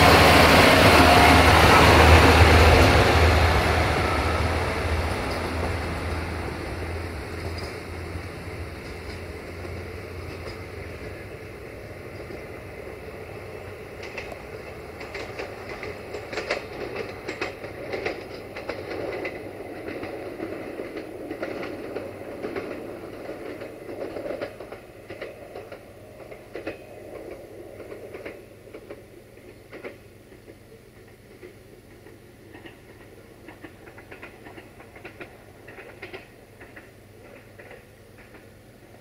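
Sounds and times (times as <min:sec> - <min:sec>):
train engine hum: 0:00.0 - 0:39.0
wheels clicking over rail joints: 0:00.0 - 0:39.0.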